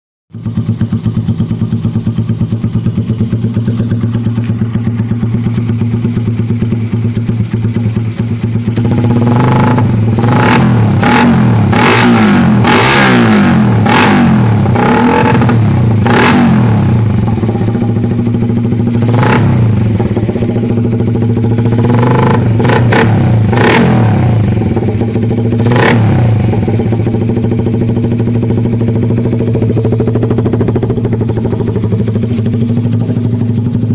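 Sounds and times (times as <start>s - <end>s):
motorcycle engine idling and revving: 0.3s - 33.9s.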